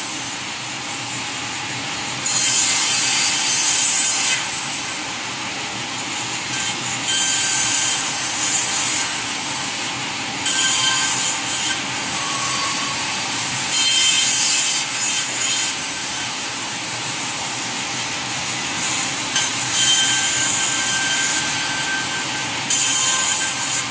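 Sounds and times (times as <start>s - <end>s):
power saw cutting wood: 2.2s - 5.0s, 5.9s - 23.9s.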